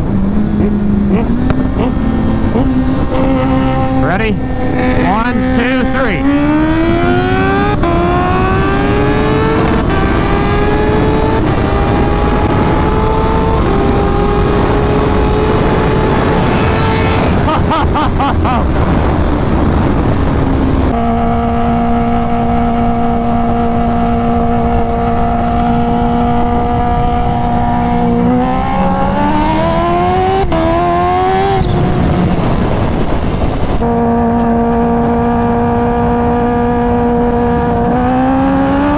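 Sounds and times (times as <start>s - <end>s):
vehicle engine accelerating hard: 0.0s - 38.9s.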